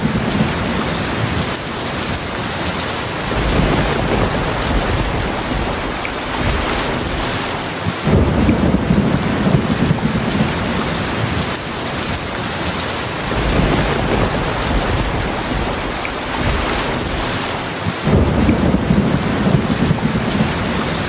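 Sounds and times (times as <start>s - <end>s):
heavy rain falling: 0.0s - 21.0s
low rolling thunder: 0.0s - 21.0s.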